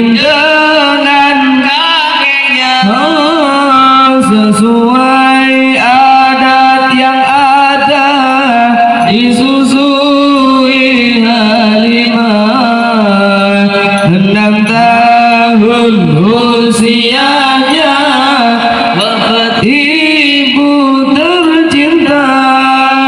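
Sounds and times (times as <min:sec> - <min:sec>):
man chanting through microphone: 0:00.0 - 0:23.0.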